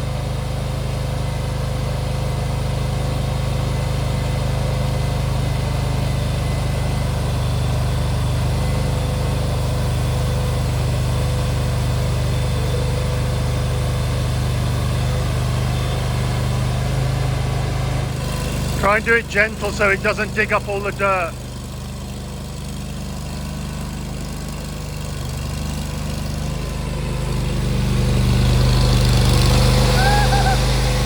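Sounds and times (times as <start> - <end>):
loader engine running: 0.0 - 31.0.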